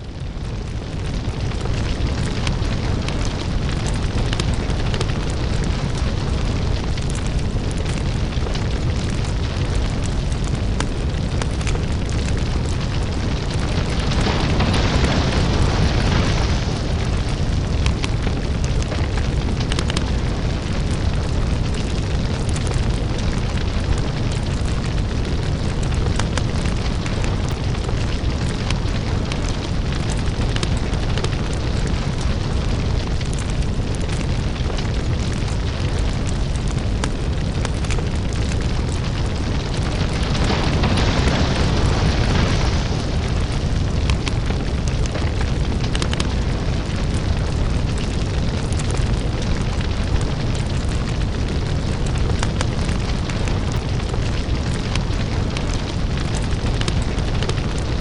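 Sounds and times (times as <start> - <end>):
deep rumble: 0.0 - 58.0
lava crackling and popping: 0.0 - 58.0.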